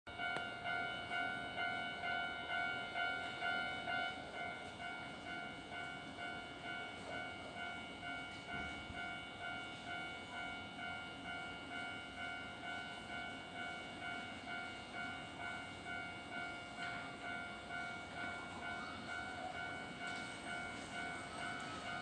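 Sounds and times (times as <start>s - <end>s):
level crossing alarm ringing: 0.1s - 22.0s.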